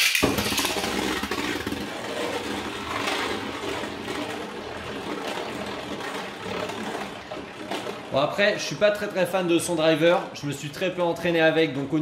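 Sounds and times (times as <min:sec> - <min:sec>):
spinning top whirring scrape: 0:00.0 - 0:10.7.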